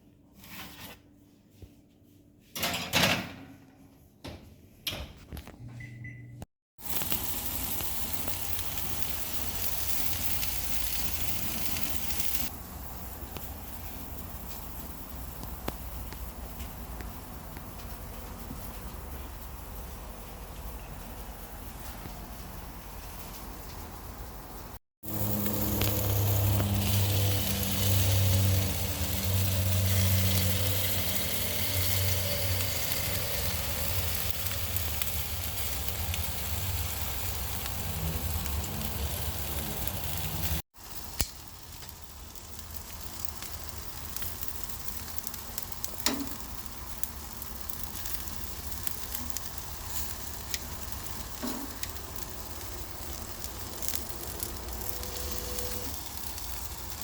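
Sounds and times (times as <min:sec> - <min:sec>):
food sizzling: 0:06.8 - 0:57.0.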